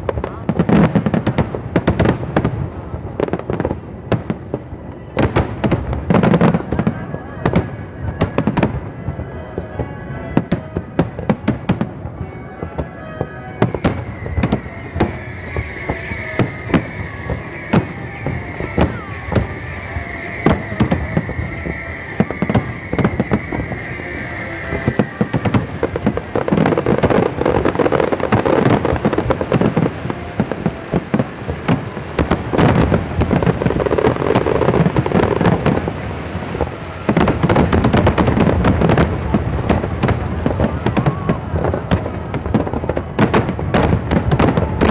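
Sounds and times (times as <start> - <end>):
fireworks bursting and crackling: 0.0 - 44.9
fireworks sizzling hiss: 0.0 - 44.9.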